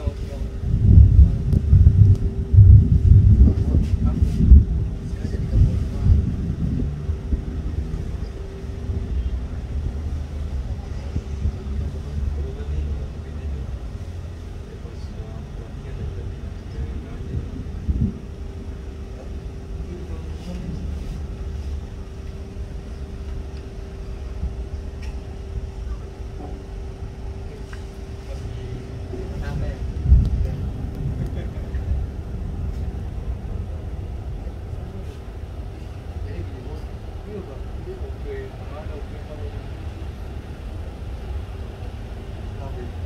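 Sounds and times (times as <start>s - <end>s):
ferry engines rumbling: 0.0s - 43.0s.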